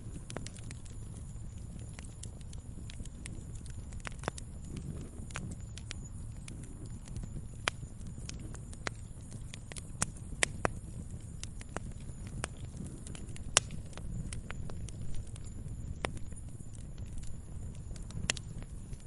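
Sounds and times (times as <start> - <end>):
fire crackling and popping: 0.0 - 19.0
low roar of flames: 0.0 - 19.0.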